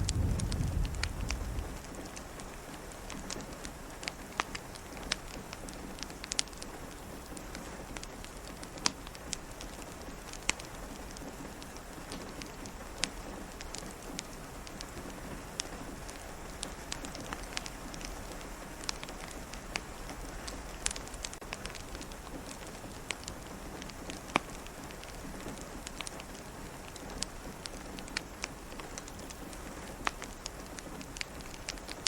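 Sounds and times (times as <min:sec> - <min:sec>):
rain hiss: 0:00.0 - 0:32.0
wood fire crackling and popping: 0:00.0 - 0:32.0.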